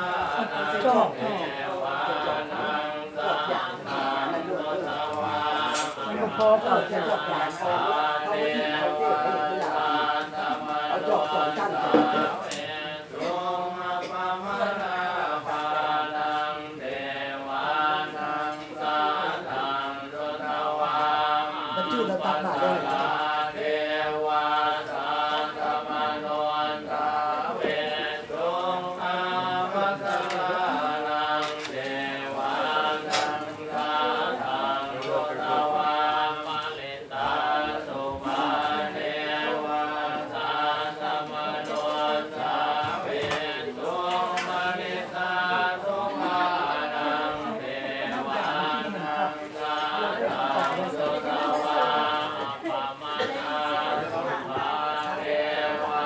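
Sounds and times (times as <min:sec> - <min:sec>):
voices chanting together: 0:00.0 - 0:56.0.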